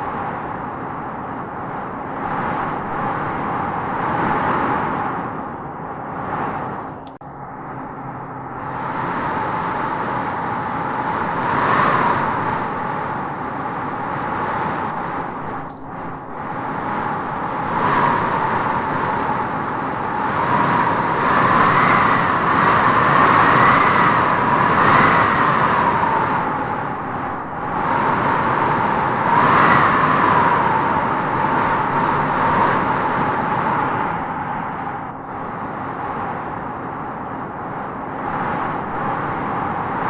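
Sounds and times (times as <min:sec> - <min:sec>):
wind howling in gusts: 0:00.0 - 0:40.0.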